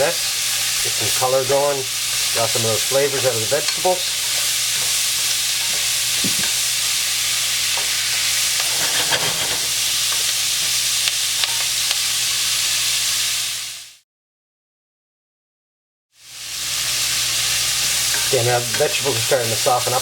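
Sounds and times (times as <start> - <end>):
vegetables sizzling in fat: 0.0 - 14.0, 16.2 - 20.0.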